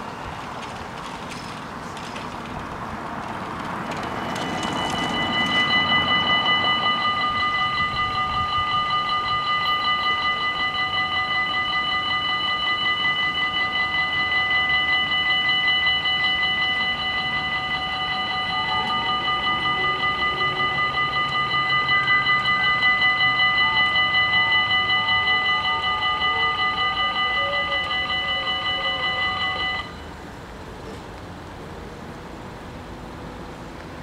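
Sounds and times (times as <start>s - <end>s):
level crossing warning bells: 0.0s - 30.9s.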